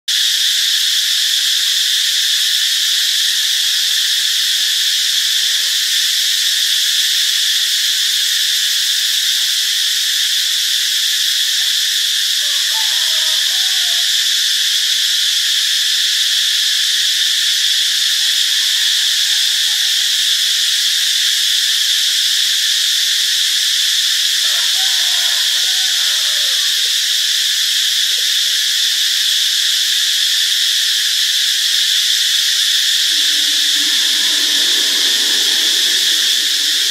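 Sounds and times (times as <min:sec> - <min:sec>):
cicada buzzing: 0:00.1 - 0:36.9.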